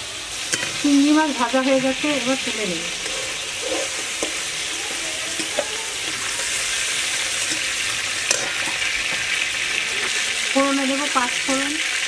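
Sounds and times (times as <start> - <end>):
shrimp sizzling in oil: 0.0 - 12.0
metal spatula scraping pan: 0.5 - 10.3.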